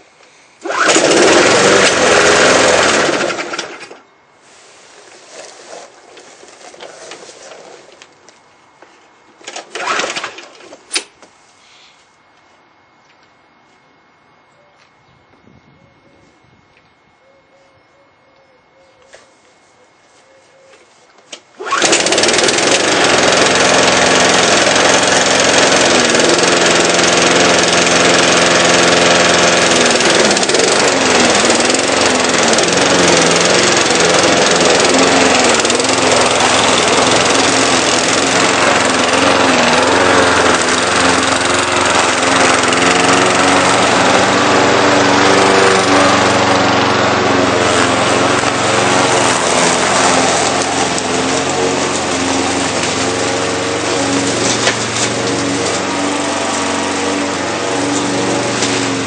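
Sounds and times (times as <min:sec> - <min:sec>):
lawn mower engine running: 0:00.0 - 0:08.4, 0:09.3 - 0:11.1, 0:21.3 - 0:59.0.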